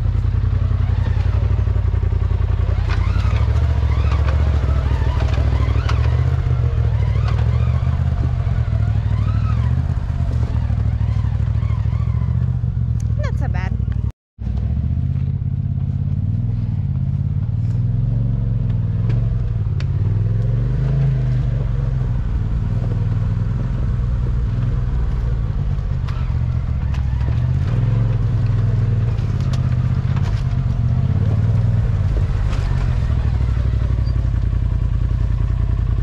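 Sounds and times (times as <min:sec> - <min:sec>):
off-road vehicle engine running: 0:00.0 - 0:36.0.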